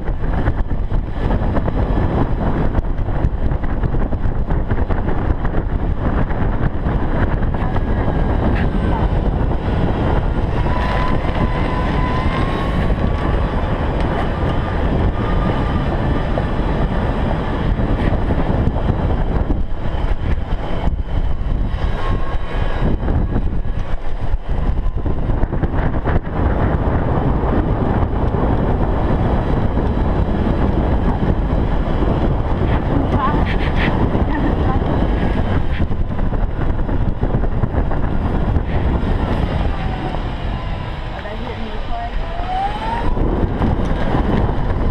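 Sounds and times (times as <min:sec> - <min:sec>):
golf cart driving: 0:00.0 - 0:44.9
wind on microphone: 0:00.0 - 0:44.9.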